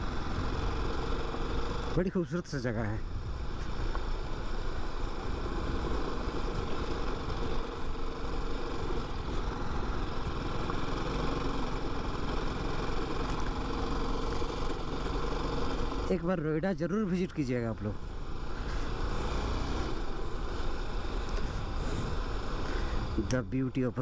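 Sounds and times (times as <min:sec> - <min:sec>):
motorcycle engine running: 0:00.0 - 0:02.1, 0:02.8 - 0:16.2, 0:17.9 - 0:23.2.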